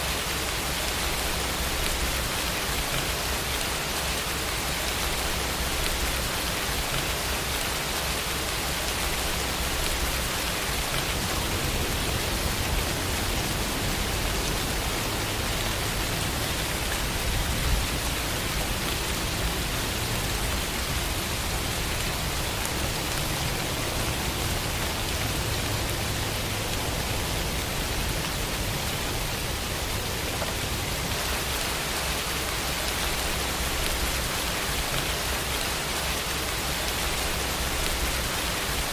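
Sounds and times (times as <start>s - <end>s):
heavy rainfall: 0.0s - 38.9s.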